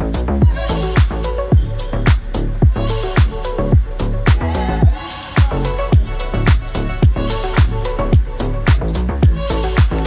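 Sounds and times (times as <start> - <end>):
dance music with kick drum: 0.0 - 10.0.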